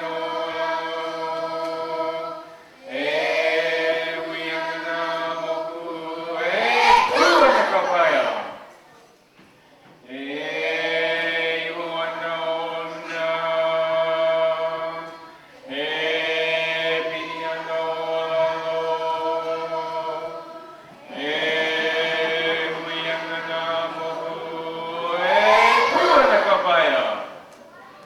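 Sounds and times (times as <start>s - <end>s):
group of voices chanting: 0.0s - 8.7s, 10.2s - 27.5s.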